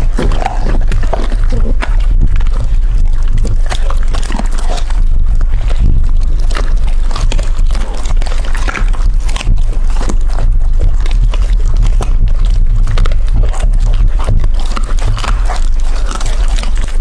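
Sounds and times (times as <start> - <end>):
dogs chewing hard treats: 0.0 - 17.0
low rumble: 0.0 - 17.0.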